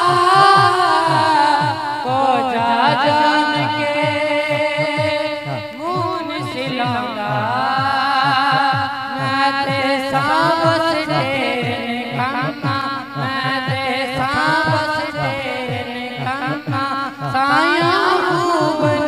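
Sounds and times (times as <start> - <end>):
low rhythmic backing pulse: 0.0 - 19.0
man singing into a microphone: 0.0 - 19.0.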